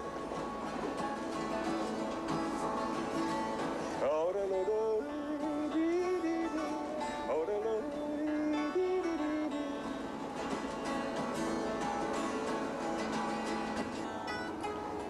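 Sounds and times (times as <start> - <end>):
country music with acoustic guitar: 0.0 - 15.0.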